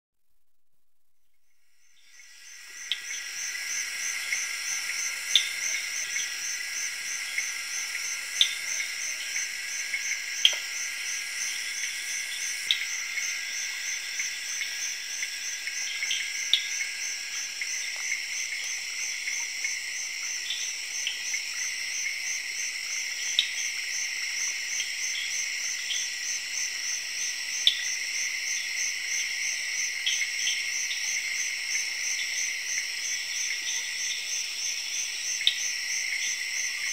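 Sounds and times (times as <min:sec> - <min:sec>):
high-pitched insect trills: 0:01.4 - 0:36.9.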